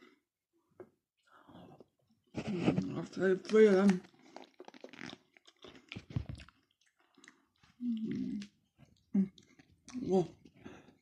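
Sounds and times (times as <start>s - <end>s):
person chewing crunchy food: 1.7s - 11.0s.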